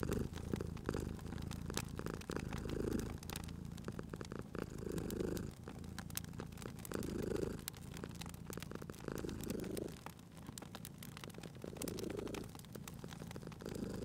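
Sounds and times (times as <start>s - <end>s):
cat purring: 0.0s - 14.0s
fireplace fire crackling: 0.0s - 14.0s.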